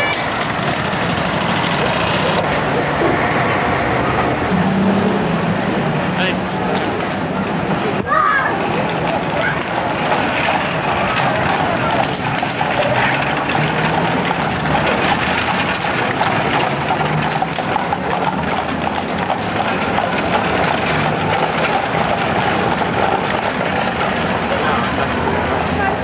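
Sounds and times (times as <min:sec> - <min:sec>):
street noise hiss: 0:00.0 - 0:26.0.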